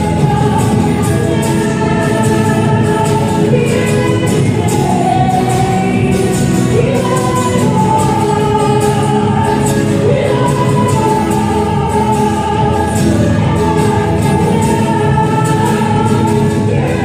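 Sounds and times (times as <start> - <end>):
band with steady beat: 0.0 - 17.0.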